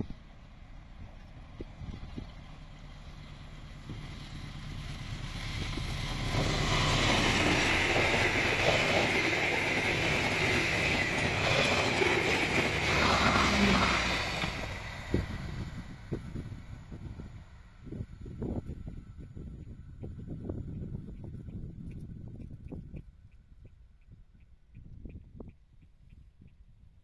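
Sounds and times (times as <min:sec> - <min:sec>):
locomotive engine rumble: 0:00.0 - 0:22.2
train wheels rushing on rails: 0:00.3 - 0:23.0.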